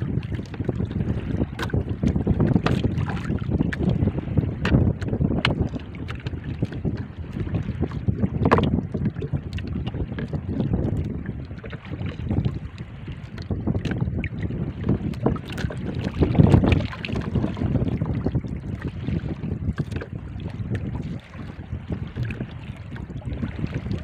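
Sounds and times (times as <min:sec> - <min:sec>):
water around boat hull: 0:00.0 - 0:24.0
wind buffeting microphone: 0:00.0 - 0:24.0.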